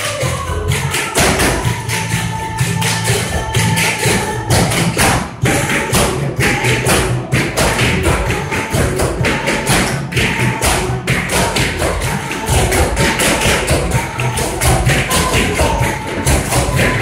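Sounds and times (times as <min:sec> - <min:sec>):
recorded music with steady beat: 0:00.0 - 0:17.0.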